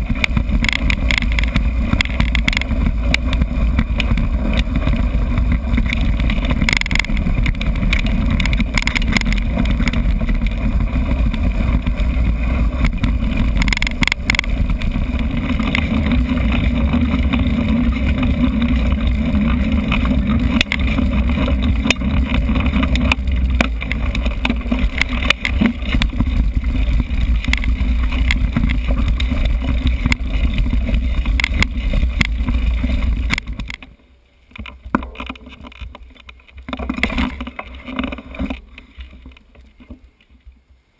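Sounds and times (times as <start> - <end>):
wind buffeting microphone: 0.0 - 33.8
bike rattles and clicks: 0.0 - 40.8.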